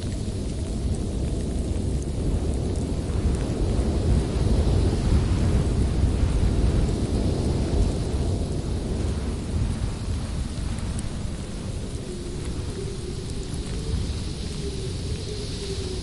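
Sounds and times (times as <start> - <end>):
rolling thunder: 0.0 - 16.0
steady rain: 0.0 - 16.0.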